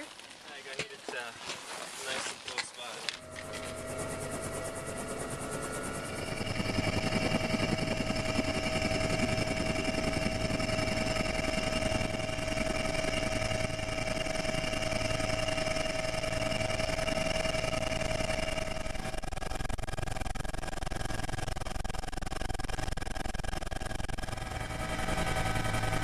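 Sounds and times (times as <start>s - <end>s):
high whine: 3.0s - 26.0s
helicopter engine and rotor: 3.1s - 26.0s.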